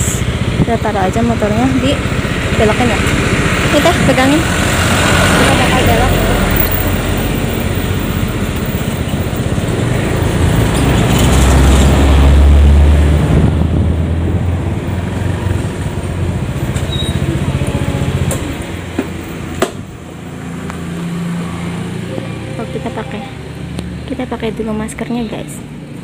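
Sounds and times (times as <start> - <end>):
scooter engine rumbling: 0.0 - 26.0.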